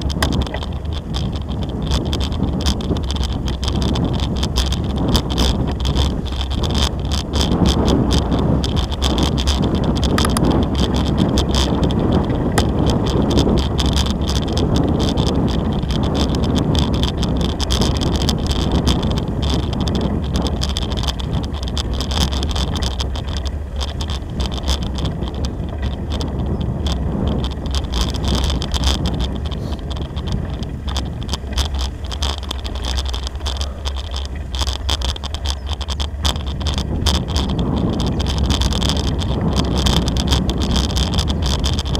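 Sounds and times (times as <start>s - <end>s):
bicycle tyres crunching on gravel: 0.0s - 41.9s
small rattles and clicks: 0.0s - 41.9s
wind buffeting microphone: 0.0s - 41.9s.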